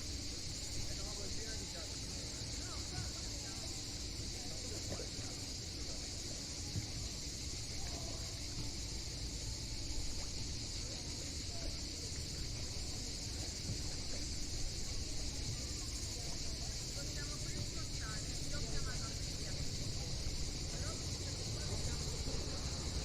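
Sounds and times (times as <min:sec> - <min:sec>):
cicadas chorus: 0:00.0 - 0:23.0.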